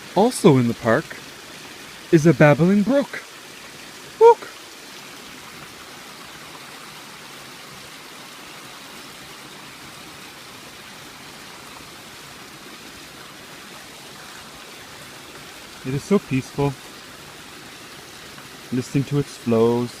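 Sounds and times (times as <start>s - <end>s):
brook water bubbling over stones: 0.0s - 20.0s.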